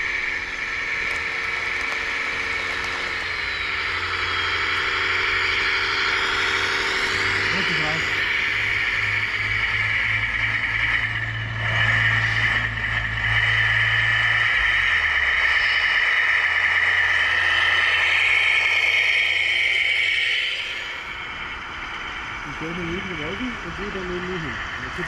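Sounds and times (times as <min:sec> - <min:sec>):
electric motors whining: 0:00.0 - 0:25.0
low steady hum: 0:00.0 - 0:25.0.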